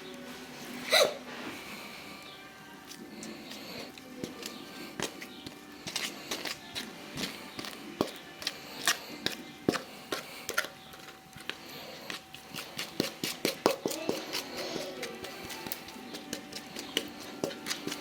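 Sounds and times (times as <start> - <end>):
spoon scraping cookware: 2.9 - 18.0.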